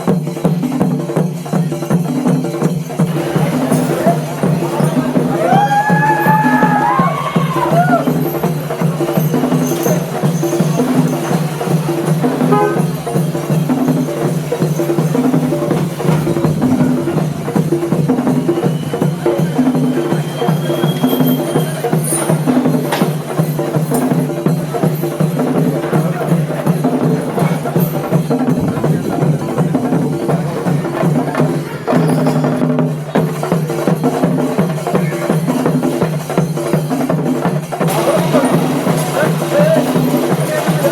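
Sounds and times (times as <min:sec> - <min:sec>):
cymbals: 0:00.0 - 0:40.9
drums playing fast rhythm: 0:00.0 - 0:40.9.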